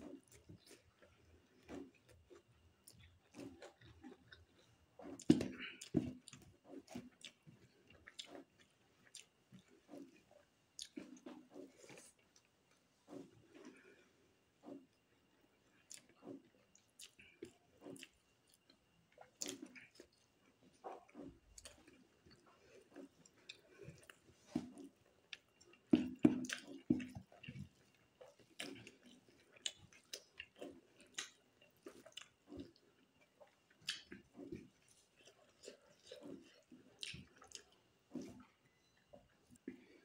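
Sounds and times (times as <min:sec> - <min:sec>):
close chewing with wet smacks: 0:00.0 - 0:40.0.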